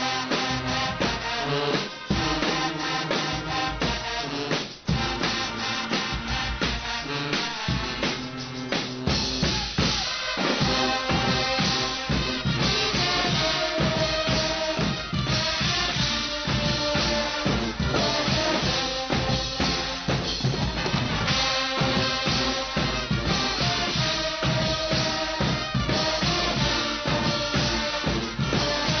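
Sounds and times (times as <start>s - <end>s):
brass instruments: 0.0s - 29.0s
loud carnival drums: 0.0s - 29.0s.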